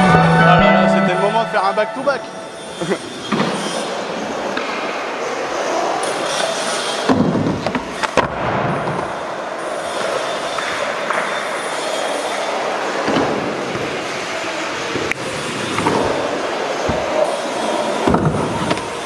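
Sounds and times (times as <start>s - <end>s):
skateboard wheels rolling on concrete: 3.1s - 19.0s.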